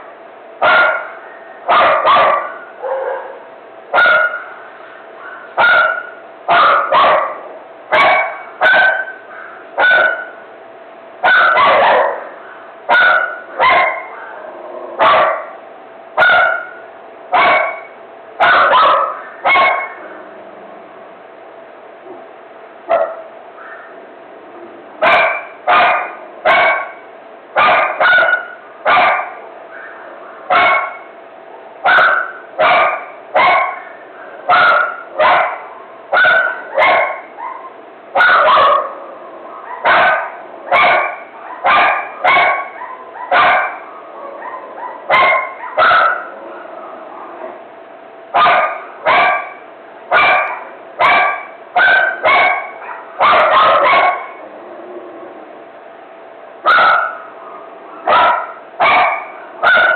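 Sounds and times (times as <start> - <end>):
dog barking frantically: 0.6 - 4.6, 5.2 - 10.5, 11.2 - 15.6, 16.2 - 20.1, 22.9 - 24.0, 25.0 - 31.2, 31.8 - 47.6, 48.3 - 54.4, 56.6 - 59.9.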